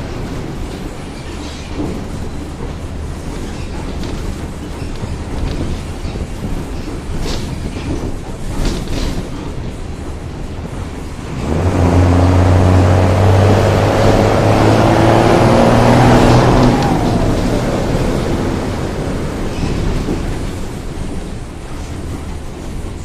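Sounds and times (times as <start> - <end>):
diesel locomotive engine passing: 0.0 - 23.0.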